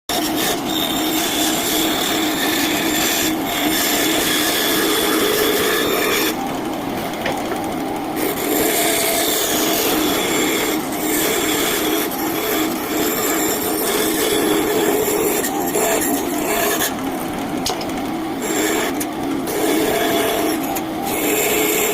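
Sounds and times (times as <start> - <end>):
blade rasping through wood: 0.1 - 6.4, 8.2 - 17.1, 18.4 - 21.9
bandsaw motor hum: 0.1 - 21.9.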